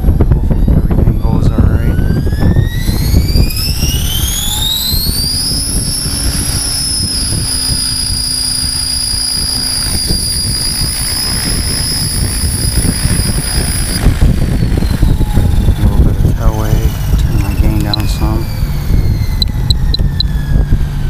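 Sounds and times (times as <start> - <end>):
electric helicopter motor whine: 0.0 - 21.0
low rumbling: 0.0 - 21.0.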